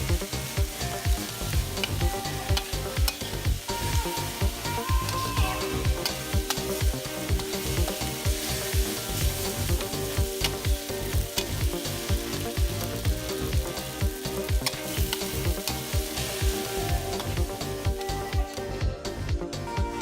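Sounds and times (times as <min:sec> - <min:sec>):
food sizzling in a pan: 0:00.0 - 0:19.2
background music with steady beat: 0:00.0 - 0:20.0.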